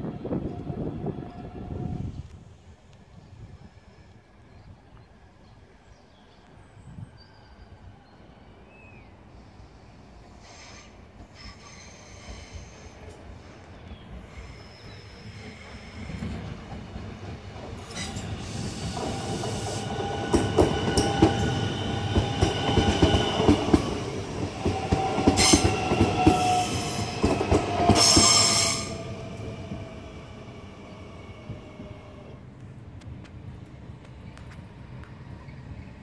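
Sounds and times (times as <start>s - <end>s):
train passing on rails: 0.0s - 36.0s.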